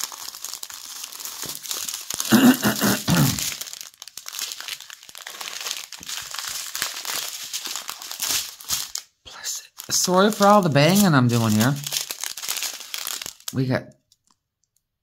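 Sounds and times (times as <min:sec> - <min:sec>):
plastic bags crinkling: 0:00.0 - 0:14.8.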